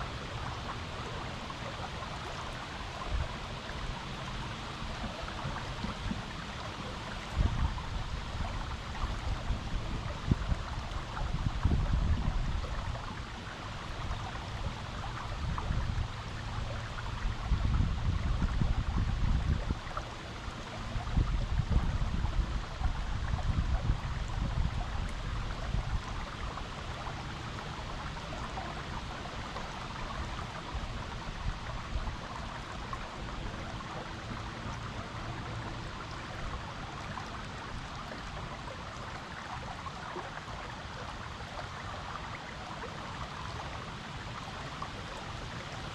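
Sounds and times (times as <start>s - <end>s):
low rumble gusts: 0.0s - 40.1s
creek water flowing over rocks: 0.0s - 45.9s.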